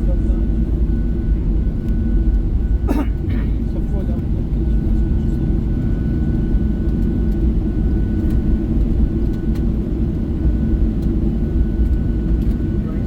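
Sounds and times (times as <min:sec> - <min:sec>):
airplane engines and airflow rumble: 0:00.0 - 0:13.0.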